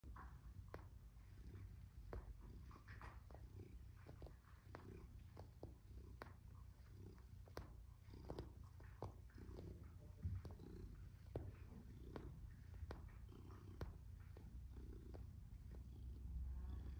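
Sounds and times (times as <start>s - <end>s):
cat purring: 0.0s - 16.9s
paws clicking on fabric: 0.0s - 16.9s.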